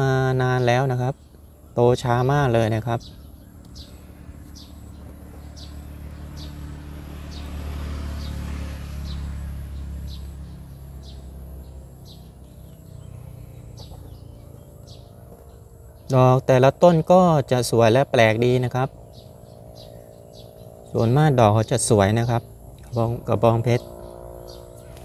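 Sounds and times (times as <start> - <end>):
vehicle engine passing: 2.1 - 25.0.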